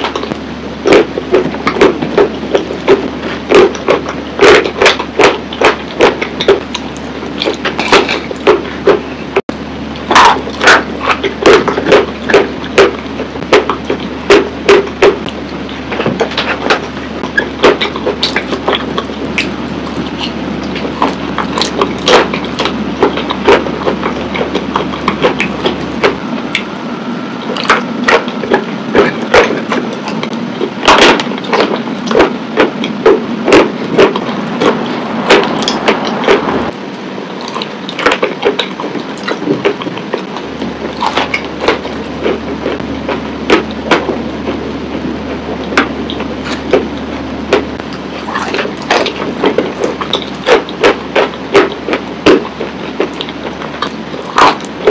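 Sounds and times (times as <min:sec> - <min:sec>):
steady low hum: 0:00.0 - 0:54.9
wet crunchy chewing: 0:00.0 - 0:54.9.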